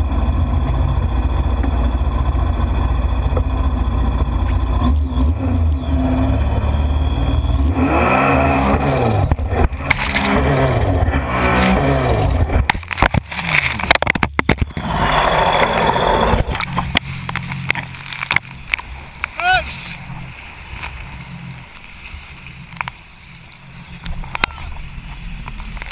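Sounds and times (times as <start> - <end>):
jet ski engine revving: 0.0 - 25.9
rush of noise: 0.0 - 25.9.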